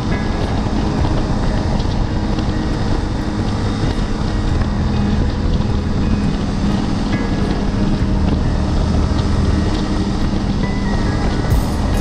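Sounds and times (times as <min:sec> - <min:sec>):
motorcycle engine cruising: 0:00.0 - 0:12.0
wind rush on microphone: 0:00.0 - 0:12.0.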